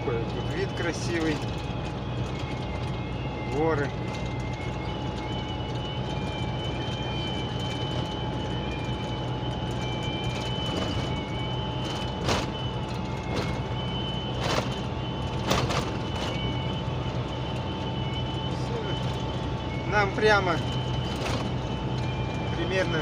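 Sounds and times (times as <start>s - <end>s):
truck engine and road drone: 0.0s - 23.0s
thin whistle: 2.2s - 23.0s.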